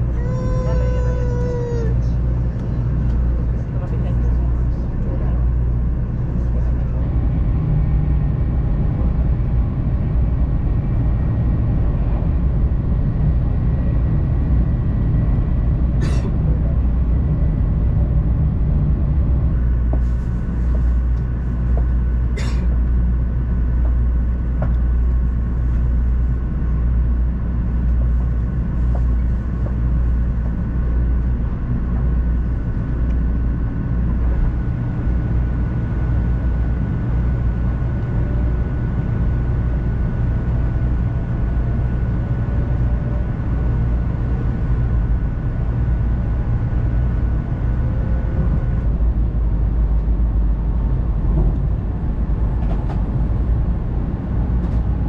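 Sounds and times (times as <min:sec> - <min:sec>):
train low rumble: 0:00.0 - 0:55.0.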